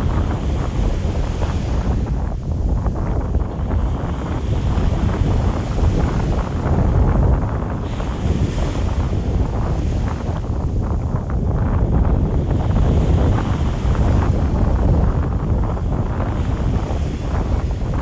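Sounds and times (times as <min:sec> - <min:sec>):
sea waves washing: 0:00.0 - 0:18.0
wind buffeting microphone: 0:00.0 - 0:18.0.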